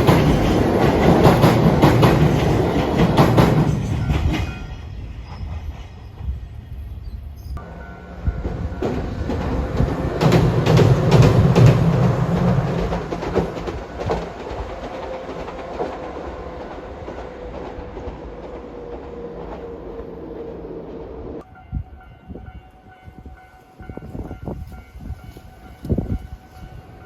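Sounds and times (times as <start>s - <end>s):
train passing: 0.0s - 27.0s.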